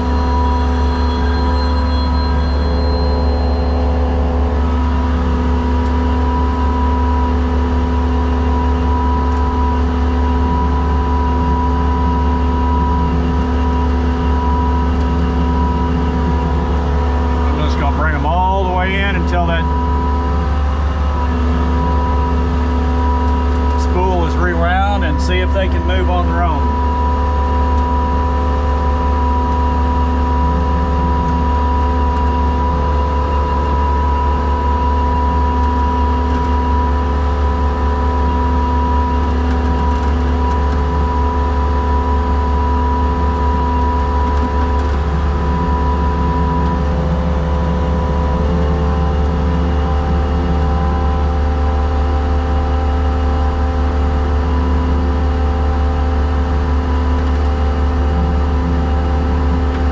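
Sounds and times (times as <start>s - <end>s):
diesel engine running under load: 0.0s - 59.9s
hydraulic whine: 0.0s - 59.9s.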